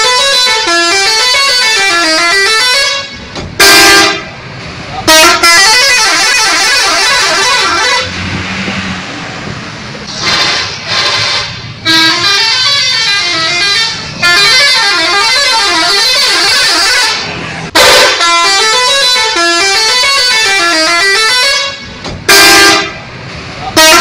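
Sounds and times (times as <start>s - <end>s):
multi-tone musical bus horn: 0.0s - 4.4s, 5.0s - 8.2s, 10.1s - 23.0s, 23.7s - 24.0s.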